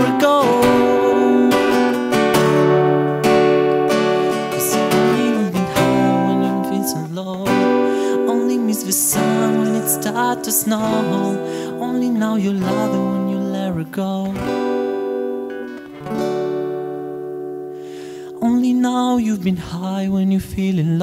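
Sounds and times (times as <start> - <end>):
man singing: 0.0 - 3.0, 3.9 - 15.2, 18.3 - 21.0
acoustic guitar strumming: 0.0 - 21.0.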